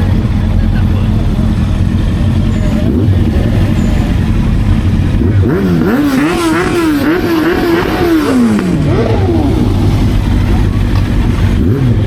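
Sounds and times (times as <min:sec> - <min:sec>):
motorcycle engine revving: 0:00.0 - 0:12.0
wind and road noise: 0:00.0 - 0:12.0.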